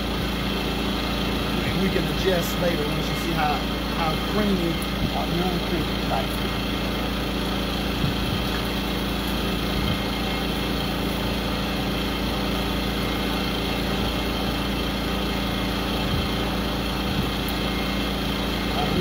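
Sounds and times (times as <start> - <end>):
small engine humming: 0.0 - 19.0.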